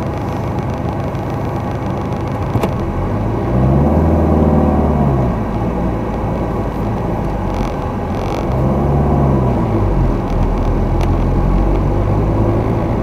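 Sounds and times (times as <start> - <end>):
car engine: 0.0 - 13.0
road rumble: 0.0 - 13.0.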